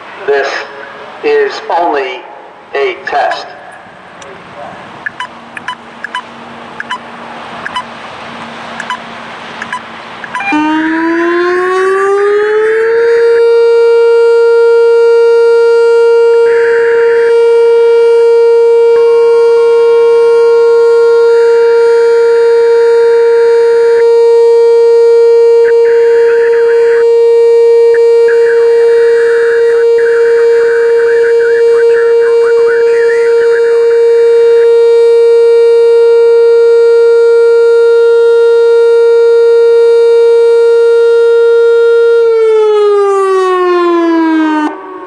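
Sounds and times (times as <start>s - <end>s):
electronic siren steady tone: 2.8s - 45.0s.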